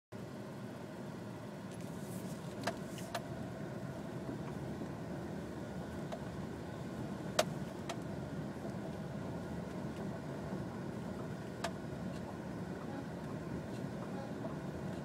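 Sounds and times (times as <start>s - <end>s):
road and engine rumble: 0.1s - 15.0s.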